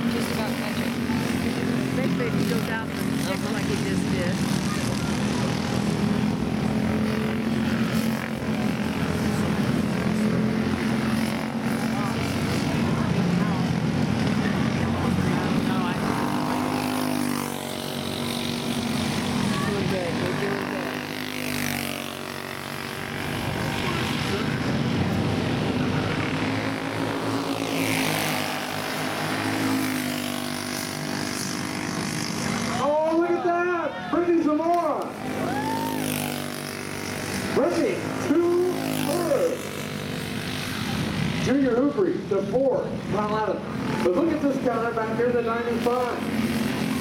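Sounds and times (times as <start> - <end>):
many kart engines buzzing: 0.0 - 47.0.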